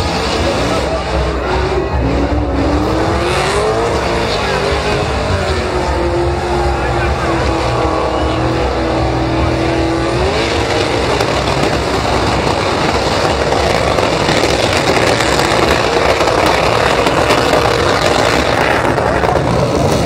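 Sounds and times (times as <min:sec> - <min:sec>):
tires spinning on pavement: 0:00.0 - 0:20.0
truck engine at high revs: 0:00.0 - 0:20.0.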